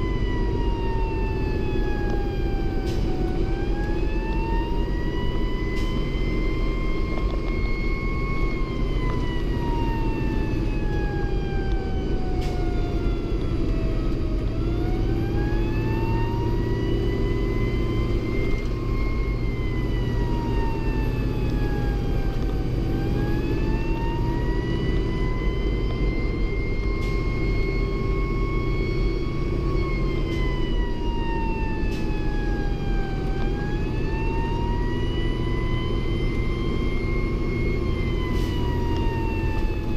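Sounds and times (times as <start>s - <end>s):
fire engine siren wailing: 0.0s - 39.9s
road noise: 0.0s - 39.9s
truck engine rumble: 0.0s - 39.9s.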